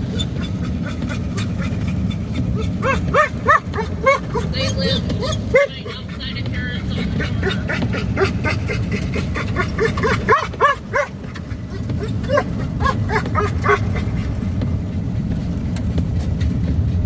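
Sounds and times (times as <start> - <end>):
vehicle cabin road noise: 0.0 - 17.0.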